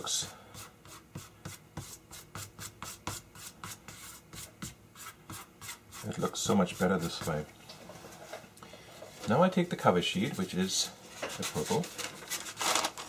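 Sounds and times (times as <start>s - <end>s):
hands brushing paper: 0.5s - 8.3s, 10.2s - 13.0s.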